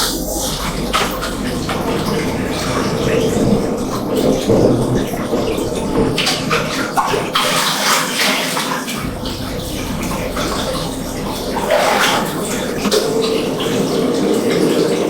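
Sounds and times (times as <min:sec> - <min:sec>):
water splashing into a bathtub: 0:00.0 - 0:15.0.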